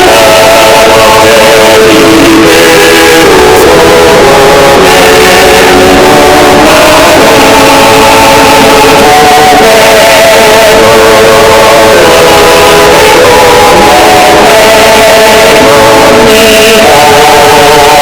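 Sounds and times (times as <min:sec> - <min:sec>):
party noisemaker horns blaring: 0:00.0 - 0:18.0.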